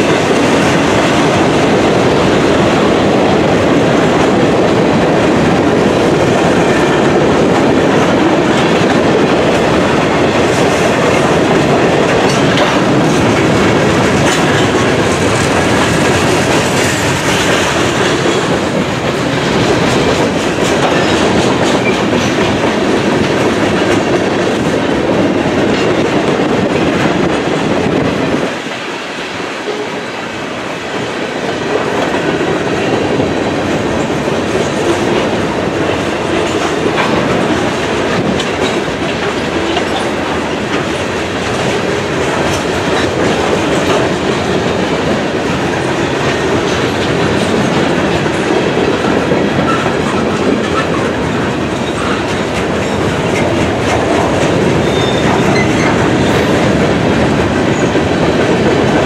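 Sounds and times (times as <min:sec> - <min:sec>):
wheels clicking over rail joints: 0:00.0 - 0:28.7, 0:31.6 - 0:59.0
freight train cars rolling past: 0:00.0 - 0:59.0.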